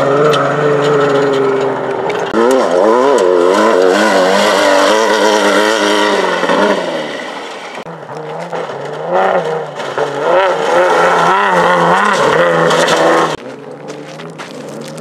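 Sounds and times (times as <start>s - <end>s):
race buggy engine revving: 0.0s - 15.0s.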